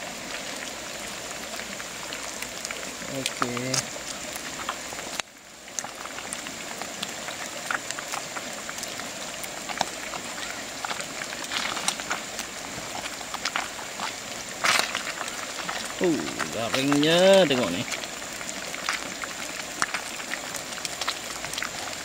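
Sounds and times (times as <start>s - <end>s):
fish sizzling in hot oil: 0.0s - 22.0s
oil crackling and popping: 0.0s - 22.0s.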